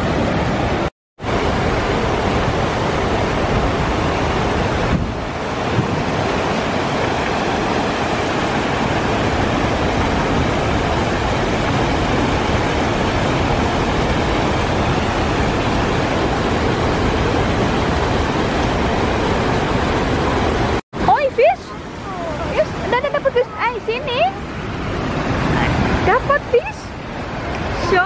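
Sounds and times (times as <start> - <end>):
river water rushing over rocks: 0.0 - 28.0.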